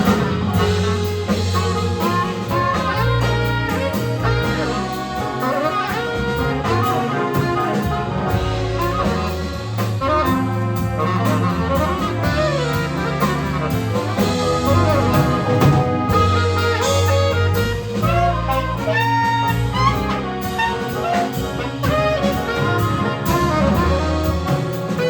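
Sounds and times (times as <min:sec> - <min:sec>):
big band playing jazz: 0:00.0 - 0:25.0.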